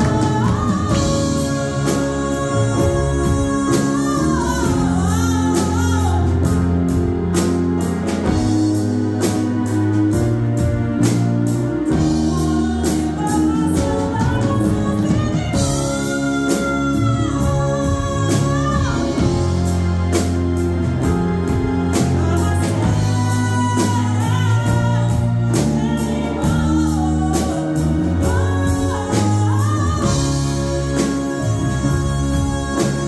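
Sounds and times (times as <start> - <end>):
live band playing power ballad: 0.0 - 33.0.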